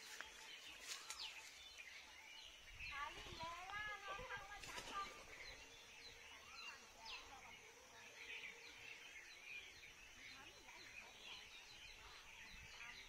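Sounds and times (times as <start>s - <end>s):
bird chirps and twitters: 0.0s - 13.0s.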